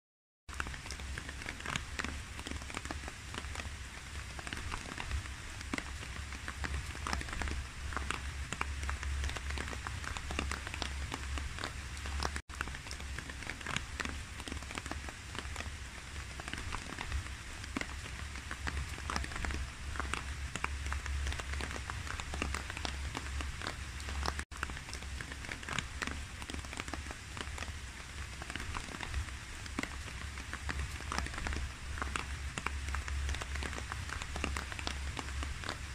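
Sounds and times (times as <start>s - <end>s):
rain on water: 0.5s - 35.9s.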